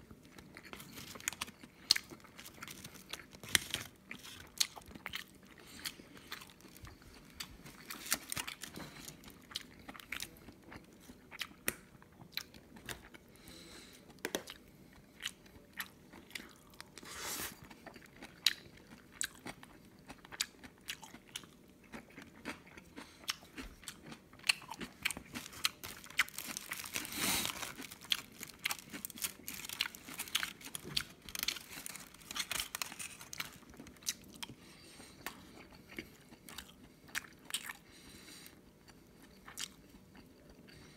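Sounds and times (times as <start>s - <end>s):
person chewing and biting: 0.3s - 13.2s, 14.2s - 37.9s, 38.8s - 40.9s.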